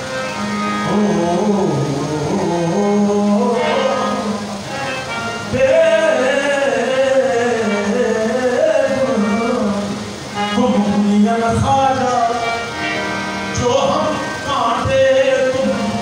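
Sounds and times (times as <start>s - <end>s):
singing with instruments: 0.0s - 16.0s.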